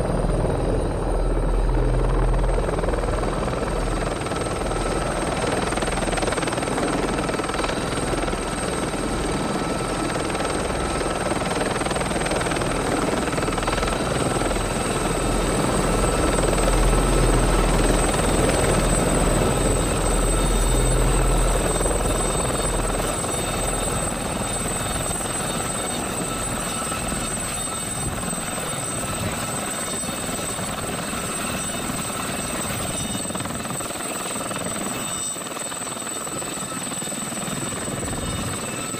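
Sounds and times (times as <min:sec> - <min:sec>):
helicopter rotor noise: 0:00.0 - 0:38.9
high turbine whine: 0:00.0 - 0:38.9.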